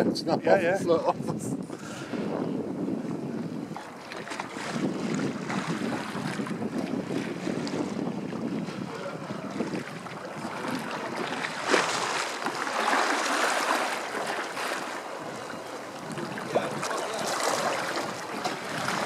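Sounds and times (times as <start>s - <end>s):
wind buffeting microphone: 0.0s - 19.0s
river water lapping and sloshing: 1.6s - 19.0s.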